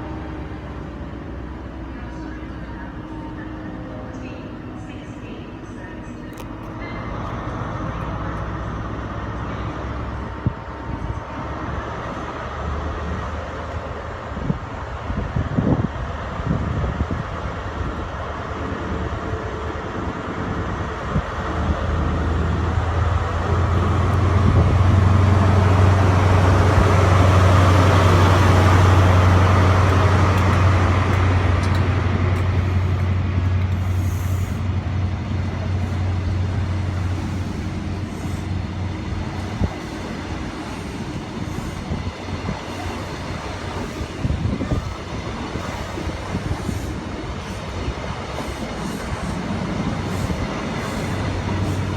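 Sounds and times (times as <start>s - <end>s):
train engine drone: 0.0s - 51.9s
train rushing noise: 0.0s - 51.9s.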